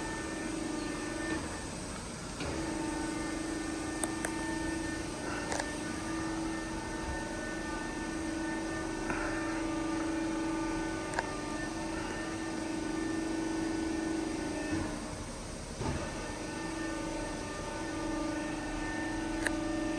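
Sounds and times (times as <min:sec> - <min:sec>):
electric machine hum: 0:00.0 - 0:19.9.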